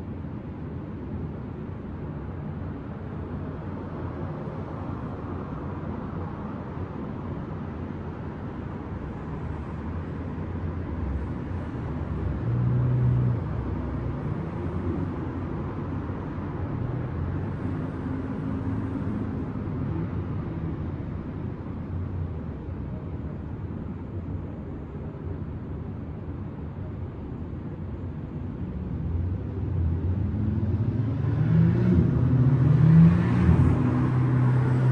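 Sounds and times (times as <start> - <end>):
distant road traffic rumble: 0.0 - 34.9
vehicle engine hum: 0.0 - 34.9.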